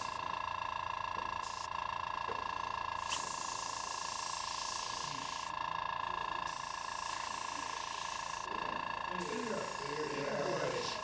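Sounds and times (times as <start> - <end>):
airbrush hissing: 0.0 - 11.0
steady high-pitched hum: 0.0 - 11.0.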